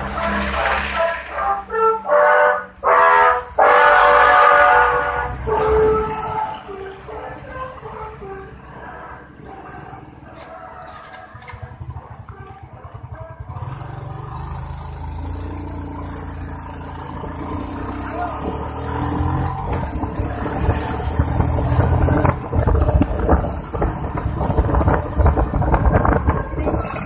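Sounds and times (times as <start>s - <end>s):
large vehicle engine passing: 0.0s - 1.7s, 4.1s - 27.0s.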